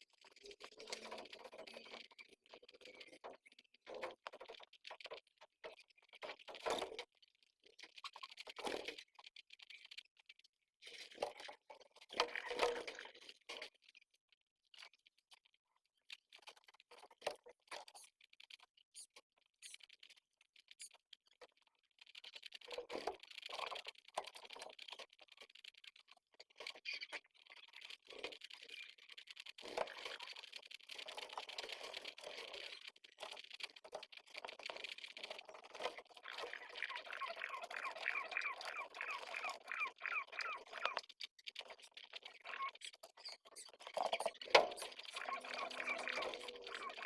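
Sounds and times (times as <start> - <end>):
crackling rustle: 0.0 - 47.0
small taps and scratches: 0.2 - 47.0.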